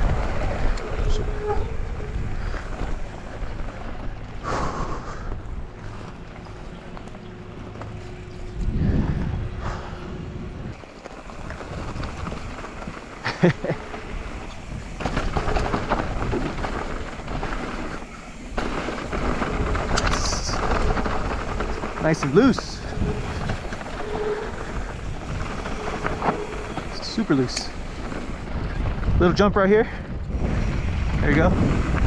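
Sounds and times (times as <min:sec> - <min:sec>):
bike rattling: 0:00.0 - 0:32.0
tyres on loose dirt: 0:00.0 - 0:32.0
wind buffeting microphone: 0:00.0 - 0:32.0.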